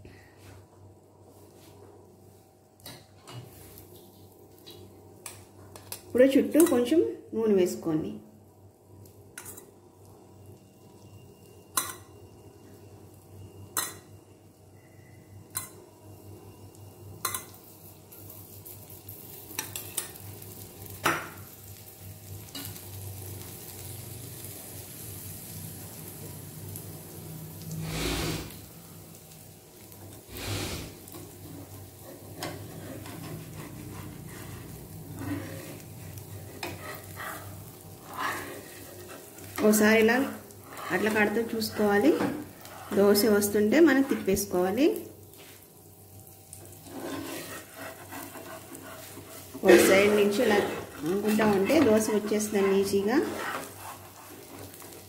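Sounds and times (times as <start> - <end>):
dosa sizzling on griddle: 8.8 - 44.4, 45.2 - 55.0.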